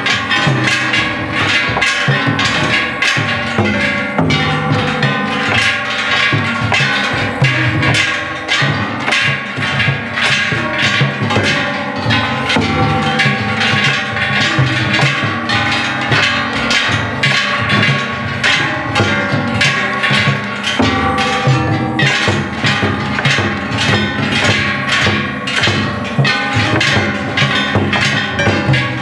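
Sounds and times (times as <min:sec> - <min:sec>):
brass hand gongs clanging: 0:00.0 - 0:29.0
taiko drum beating: 0:00.0 - 0:29.0.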